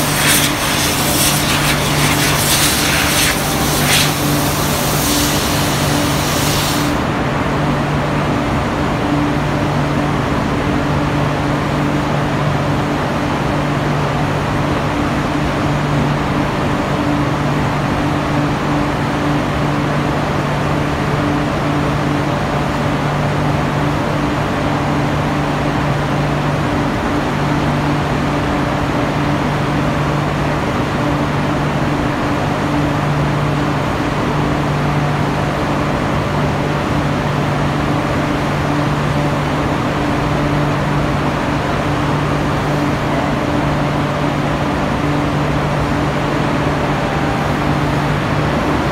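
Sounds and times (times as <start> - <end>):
constant low hum: 0.0 - 48.9
steelworks machinery drone: 0.0 - 48.9.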